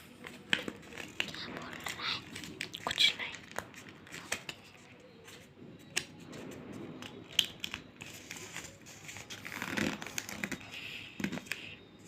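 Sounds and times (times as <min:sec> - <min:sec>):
paper rustling and crinkling: 0:00.0 - 0:11.7.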